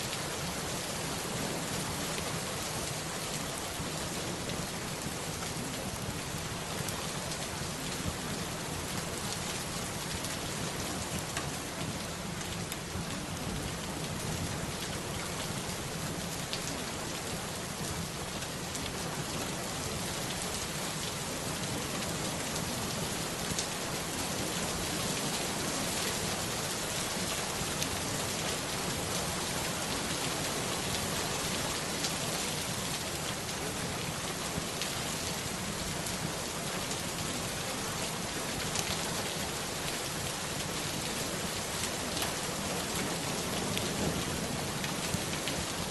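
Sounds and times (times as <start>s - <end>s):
steady rain hissing: 0.0s - 45.9s.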